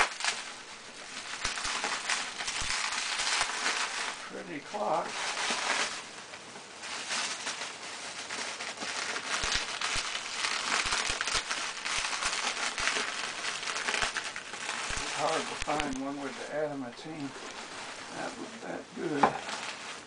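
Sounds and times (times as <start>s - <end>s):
bubble wrap crinkling and rustling: 0.0s - 20.0s.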